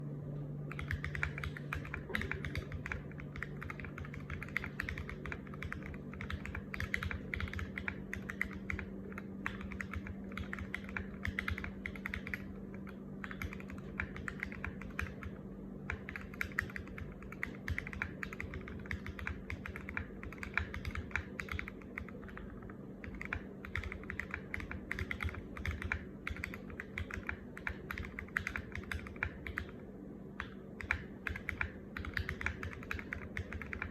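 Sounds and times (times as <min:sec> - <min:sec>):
low steady hum: 0:00.0 - 0:33.9
mechanical keyboard typing: 0:00.7 - 0:29.8, 0:30.4 - 0:33.9.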